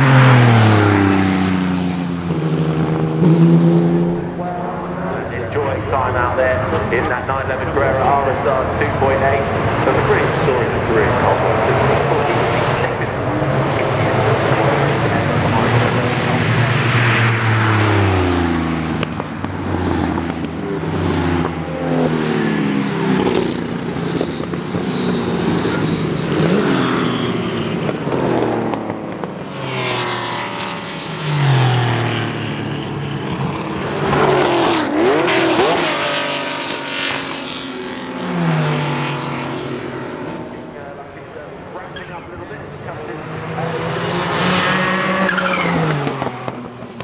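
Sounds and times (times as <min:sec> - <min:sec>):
race car engines passing: 0:00.0 - 0:47.0.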